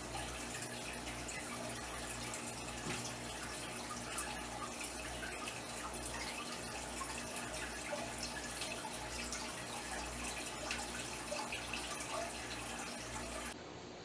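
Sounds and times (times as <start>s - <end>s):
aquarium water trickling and splashing: 0.0s - 13.6s
low steady hum: 0.0s - 14.0s.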